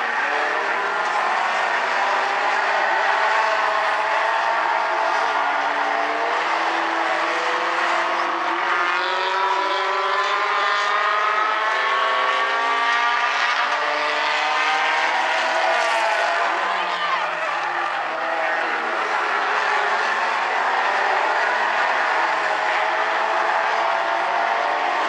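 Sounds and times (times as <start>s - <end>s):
racing car engines: 0.0s - 25.0s.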